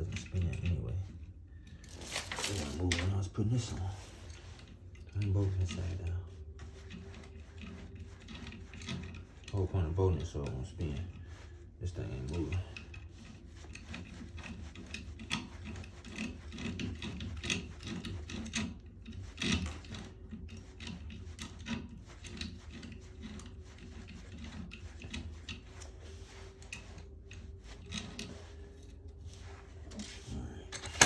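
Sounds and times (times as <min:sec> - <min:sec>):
tools scraping on metal: 0:00.0 - 0:31.0.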